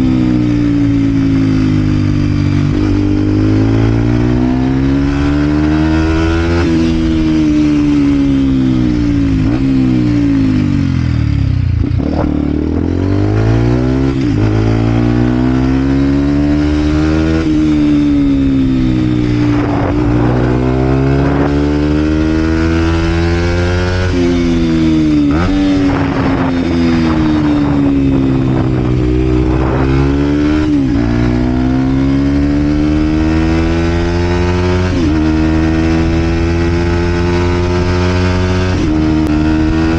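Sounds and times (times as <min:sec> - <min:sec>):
motorcycle engine ridden hard: 0:00.0 - 0:39.9.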